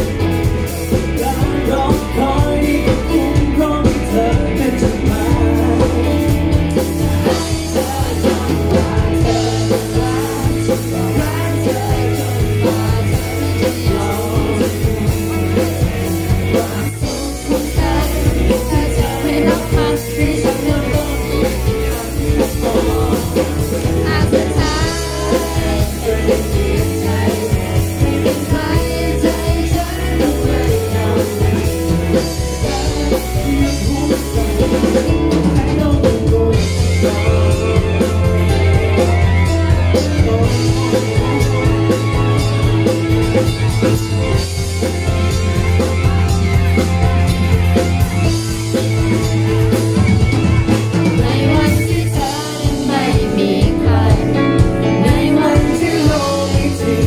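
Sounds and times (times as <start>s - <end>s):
man singing pop ballad: 0.0s - 44.0s, 50.9s - 57.0s
band playing through pa: 0.0s - 57.0s.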